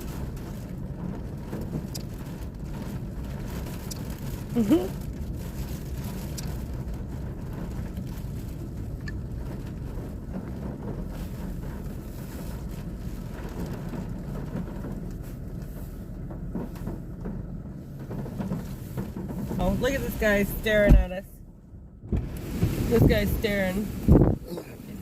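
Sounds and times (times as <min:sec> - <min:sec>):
car cabin rumble: 0:00.0 - 0:25.0.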